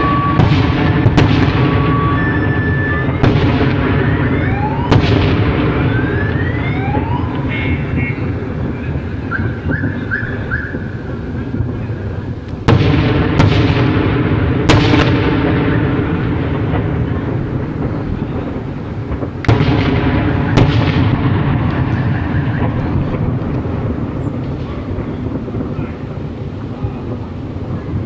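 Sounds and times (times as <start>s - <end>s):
artillery booms: 0.0s - 28.0s.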